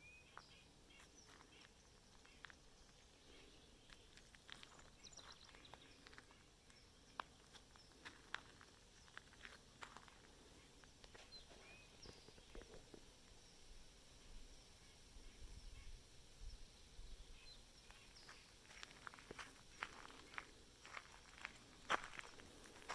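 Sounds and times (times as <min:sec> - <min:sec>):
bird chirp: 0:00.0 - 0:09.4, 0:10.0 - 0:22.9.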